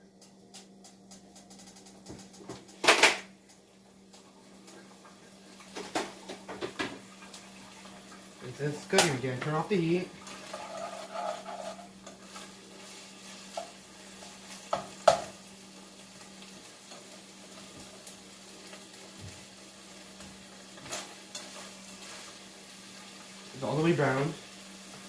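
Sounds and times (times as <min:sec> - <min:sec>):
meat sizzling in a skillet: 0:04.1 - 0:25.0.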